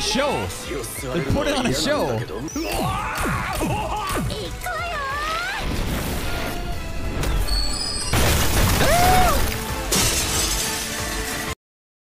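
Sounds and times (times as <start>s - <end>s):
background music: 0.0s - 11.6s.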